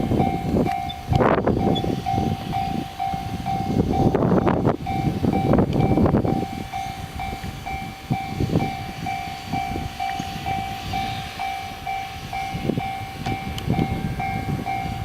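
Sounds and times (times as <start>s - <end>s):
level-crossing alarm clanging: 0.0s - 15.0s
train rumbling: 0.0s - 15.0s.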